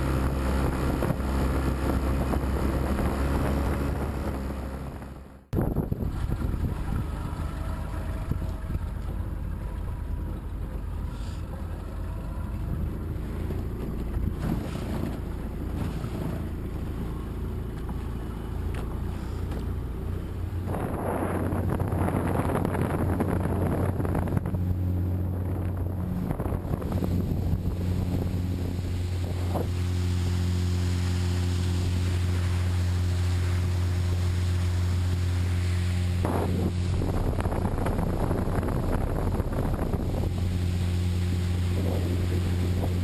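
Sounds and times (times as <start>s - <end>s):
wind on microphone: 0.0s - 17.2s, 18.3s - 43.0s
steady drone: 0.0s - 22.3s, 23.4s - 43.0s
motorboat engine running: 0.0s - 43.0s.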